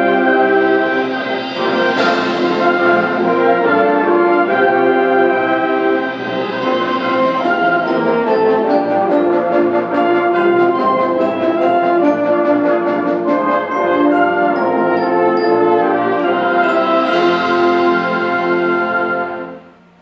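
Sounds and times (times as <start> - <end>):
symphonic band playing: 0.0 - 20.0.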